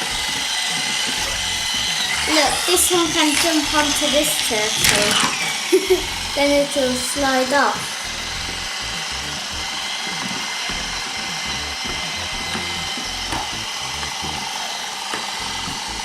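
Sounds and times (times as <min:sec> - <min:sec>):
toy motors whirring: 0:00.0 - 0:16.0.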